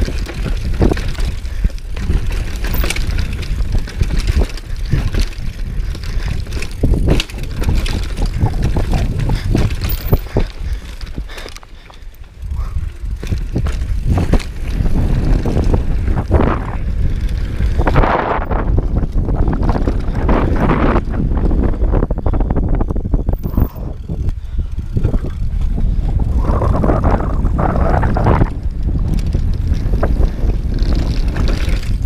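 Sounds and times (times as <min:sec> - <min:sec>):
wind on microphone: 0:00.0 - 0:11.4, 0:12.4 - 0:32.0
bike knocks and rattles: 0:00.0 - 0:22.0, 0:22.6 - 0:32.0
tyre noise on dirt: 0:00.0 - 0:32.0.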